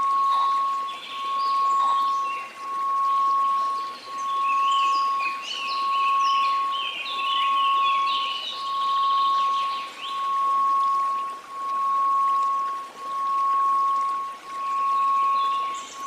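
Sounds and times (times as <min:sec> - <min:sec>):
birds chirping: 0:00.0 - 0:16.0
faint white noise hiss: 0:00.0 - 0:16.0
sine tone: 0:00.0 - 0:16.0.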